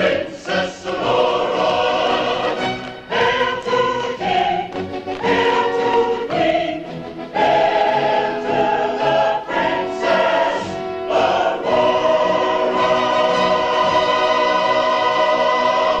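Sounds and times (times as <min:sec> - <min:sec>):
choir singing: 0:00.0 - 0:16.0
orchestra: 0:00.0 - 0:16.0.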